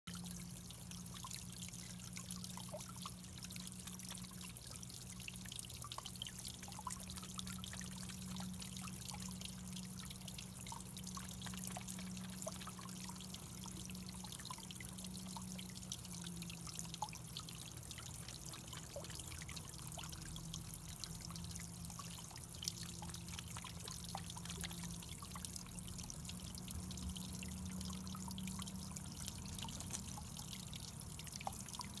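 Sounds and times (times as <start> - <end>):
low steady hum: 0.1 - 32.0
small water splashes: 0.1 - 32.0
water trickling over stones: 0.1 - 32.0.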